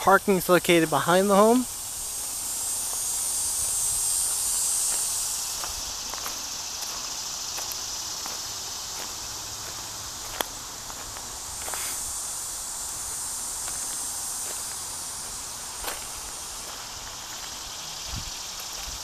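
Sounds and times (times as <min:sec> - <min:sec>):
footsteps outdoors: 0:00.0 - 0:19.0
steady high hiss: 0:00.0 - 0:19.0.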